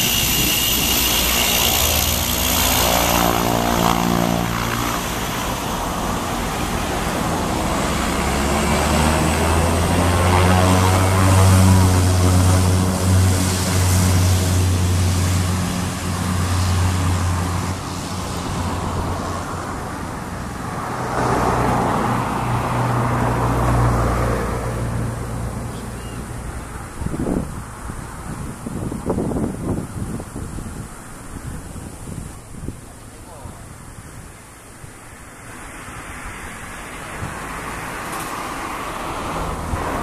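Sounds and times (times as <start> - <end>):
turboprop engine drone: 0.0 - 35.8, 36.6 - 40.0
high turbine whine: 0.0 - 40.0.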